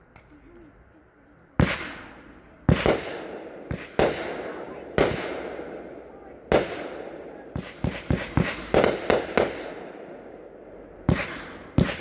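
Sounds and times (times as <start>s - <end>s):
firework bangs: 1.6s - 12.0s.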